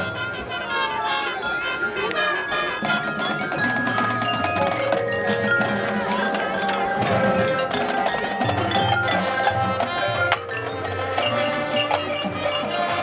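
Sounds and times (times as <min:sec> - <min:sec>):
mallet percussion ringing: 0:00.0 - 0:13.0
marching band playing: 0:00.0 - 0:13.0.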